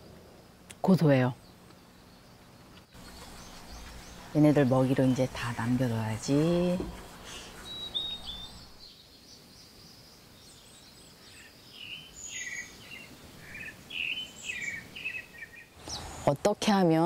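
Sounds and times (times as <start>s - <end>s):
faint garden background: 0.0s - 17.0s
small birds chirping: 0.5s - 17.0s.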